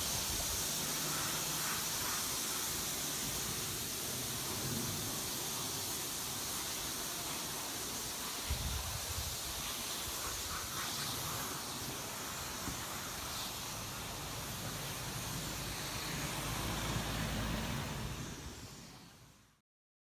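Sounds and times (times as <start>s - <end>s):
car wash hissing rush: 0.0s - 19.6s.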